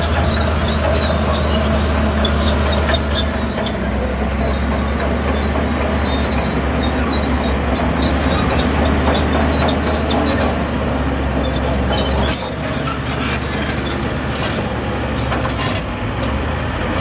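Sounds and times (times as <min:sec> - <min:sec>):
metallic squeaks and clicks: 0:00.0 - 0:10.6, 0:11.4 - 0:15.9
bulldozer diesel engine running: 0:00.0 - 0:17.0.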